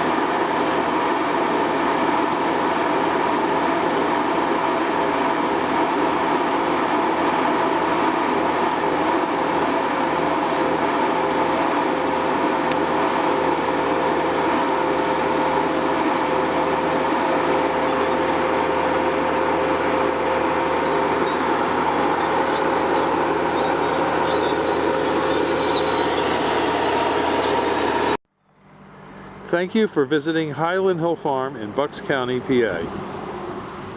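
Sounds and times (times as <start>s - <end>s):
machine droning: 0.0s - 33.9s.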